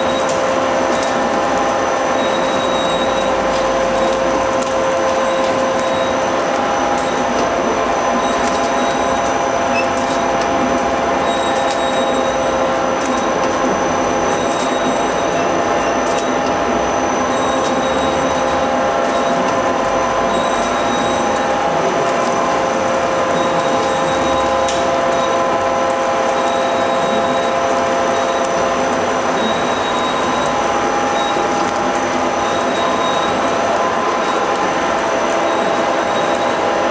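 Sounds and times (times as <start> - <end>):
packaging machine whirring: 0.0 - 36.9.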